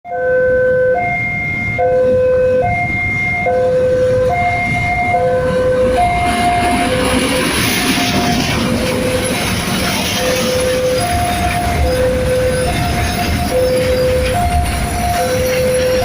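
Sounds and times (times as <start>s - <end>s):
tanker train passing at speed: 0.1s - 16.0s
two-tone warning signal: 0.1s - 16.0s.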